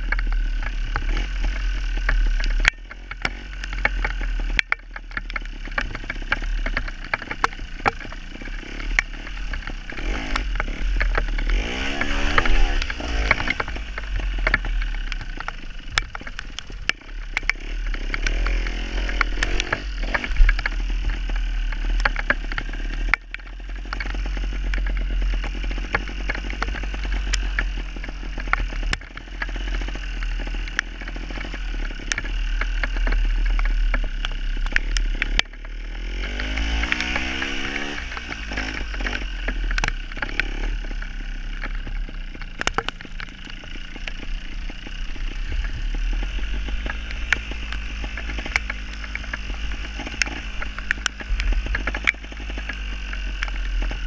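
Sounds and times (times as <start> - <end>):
motorcycle engine revving: 0.0 - 54.0
sharp clicks and clatter: 0.0 - 54.0.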